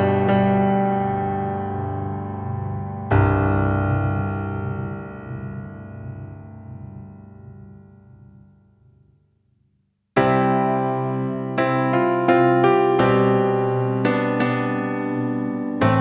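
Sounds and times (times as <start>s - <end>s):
piano chords: 0.0s - 9.1s, 10.2s - 16.0s.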